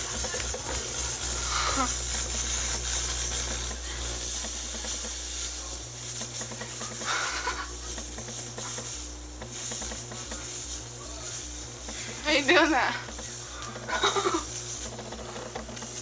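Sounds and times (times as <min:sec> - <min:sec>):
electrical hum and hiss from speakers: 0:00.0 - 0:16.0.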